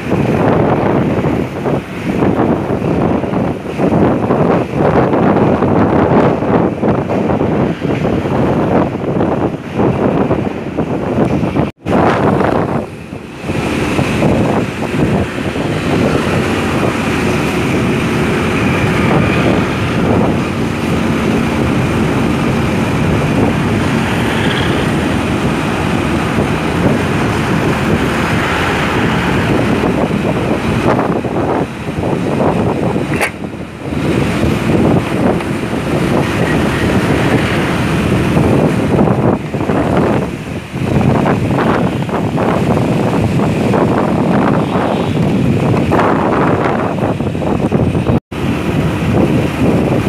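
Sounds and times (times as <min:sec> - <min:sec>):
motorcycle engine: 0:00.0 - 0:50.0
surrounding traffic: 0:00.0 - 0:50.0
wind buffeting microphone: 0:00.0 - 0:50.0.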